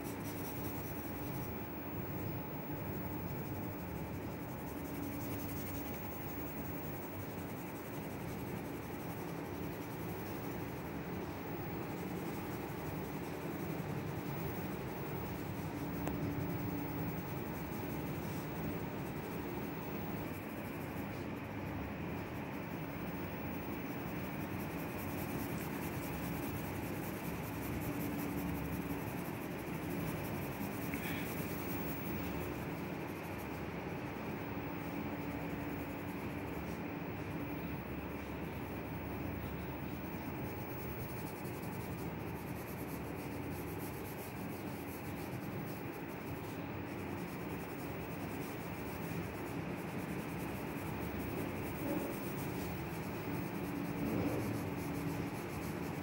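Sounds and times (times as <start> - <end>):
faint low hum: 0.0 - 56.0
pencil scratching on paper: 0.0 - 56.0.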